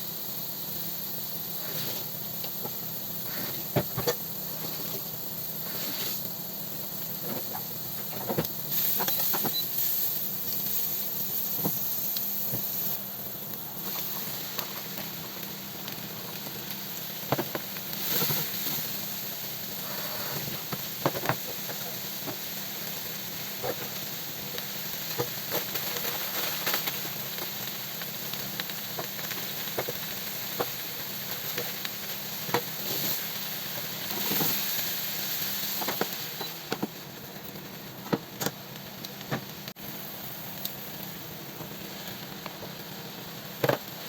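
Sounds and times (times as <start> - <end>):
food sizzling in a frying pan: 0.0 - 44.0.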